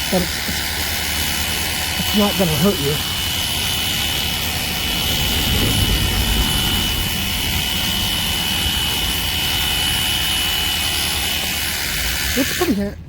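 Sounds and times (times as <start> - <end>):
pressure washer pump whine: 0.0 - 13.0
water spray hissing: 0.0 - 13.0.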